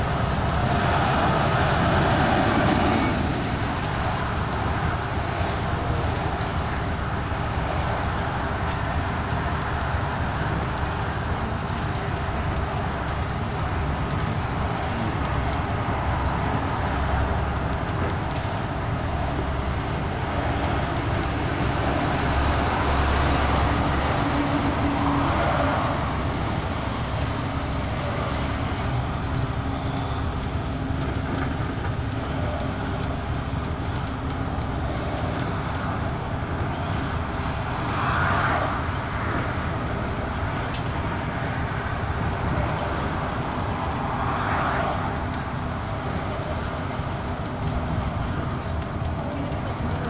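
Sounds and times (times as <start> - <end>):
bus engine and road noise: 0.0 - 50.0
passing traffic whooshes: 0.0 - 50.0.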